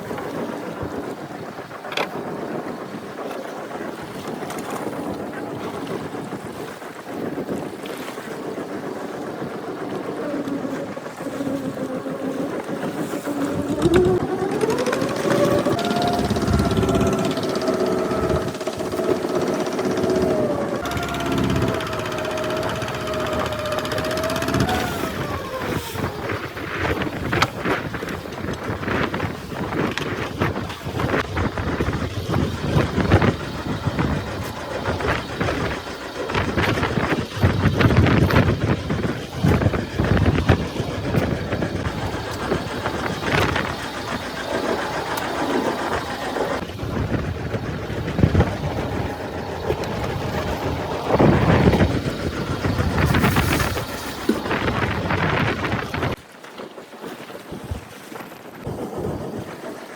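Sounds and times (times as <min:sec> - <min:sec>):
boat engine running: 0:00.0 - 0:56.3
water noise: 0:00.0 - 0:59.9
wind: 0:00.0 - 0:59.9.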